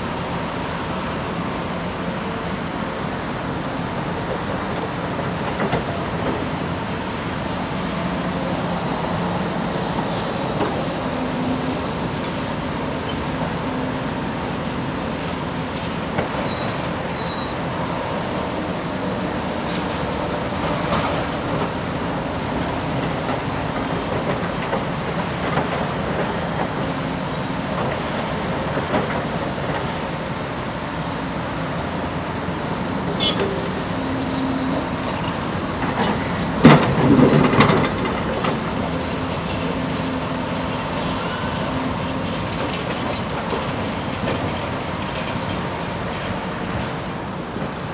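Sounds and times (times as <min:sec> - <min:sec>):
diesel excavator engine running: 0:00.0 - 0:47.9.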